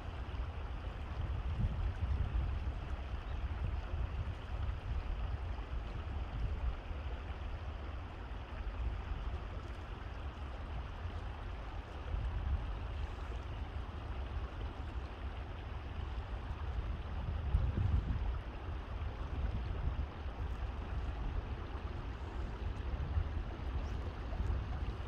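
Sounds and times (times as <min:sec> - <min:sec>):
constant low rumble: 0:00.0 - 0:25.0
small stream flowing: 0:00.0 - 0:25.0.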